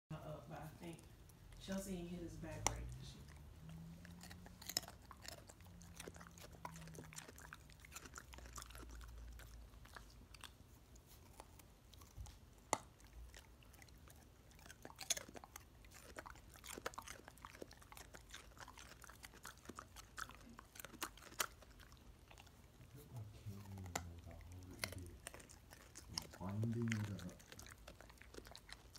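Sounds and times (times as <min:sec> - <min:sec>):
dog crunching a carrot: 0:00.9 - 0:28.9.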